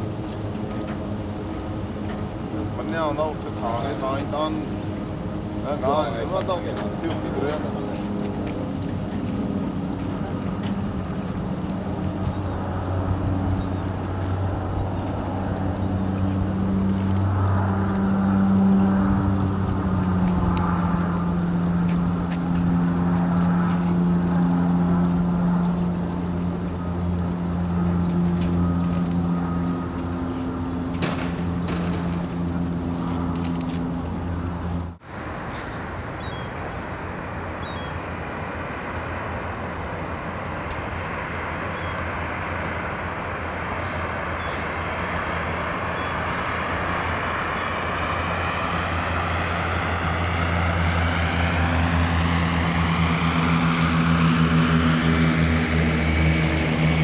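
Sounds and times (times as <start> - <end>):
propeller plane engines in flight: 0.0 - 57.0.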